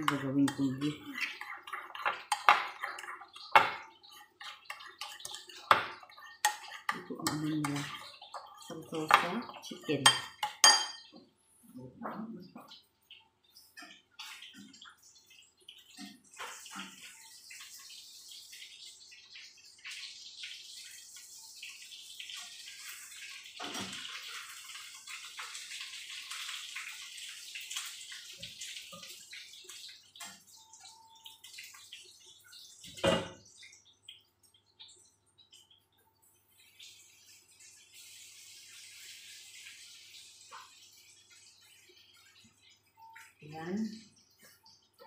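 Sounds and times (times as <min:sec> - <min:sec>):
kitchen tap running: 0:00.0 - 0:45.0.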